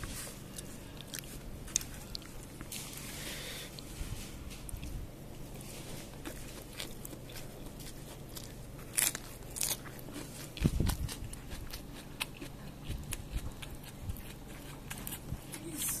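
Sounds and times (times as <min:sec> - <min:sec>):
chewing and crunching: 0:00.0 - 0:16.0.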